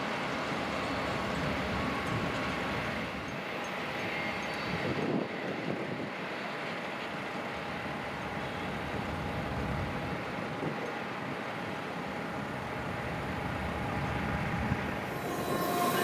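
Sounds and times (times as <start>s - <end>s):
diesel locomotive engine: 0.0s - 16.0s
train wheels on rails: 0.0s - 16.0s.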